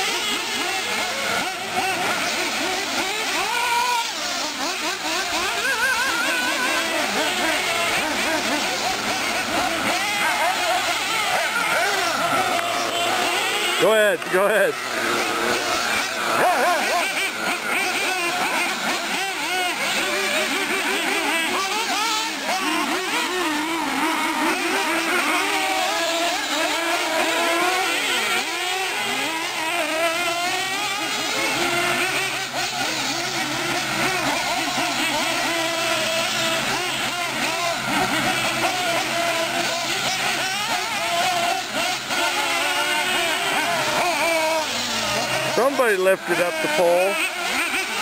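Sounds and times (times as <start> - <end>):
small engines whining high-revving: 0.0 - 48.0.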